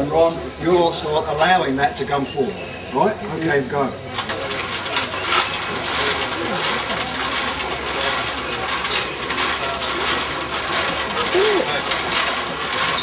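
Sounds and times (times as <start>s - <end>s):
rope machine gears clattering: 0.0s - 13.0s.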